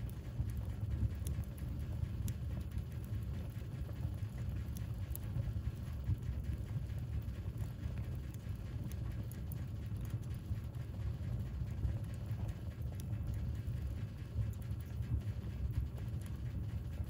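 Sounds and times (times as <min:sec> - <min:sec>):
low fire rumble: 0:00.0 - 0:17.0
wood fire crackling and popping: 0:00.0 - 0:17.0.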